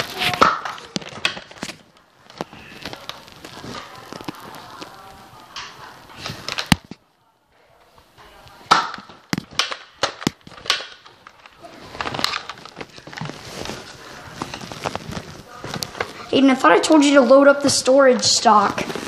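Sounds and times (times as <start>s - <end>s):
rustling handling noise: 0.0s - 7.0s, 8.0s - 19.0s.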